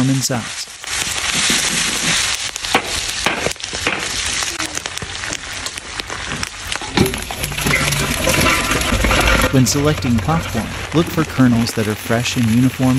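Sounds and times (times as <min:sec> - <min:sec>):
sharp crackles and pops: 0:00.0 - 0:12.9
vegetables sizzling in a wok: 0:00.0 - 0:12.9.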